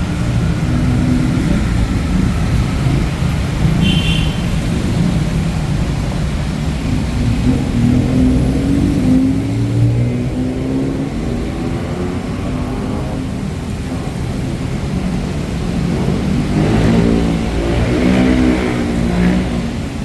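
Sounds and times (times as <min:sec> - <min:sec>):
car engine revving: 0:00.0 - 0:20.0
car engines running: 0:00.0 - 0:20.0.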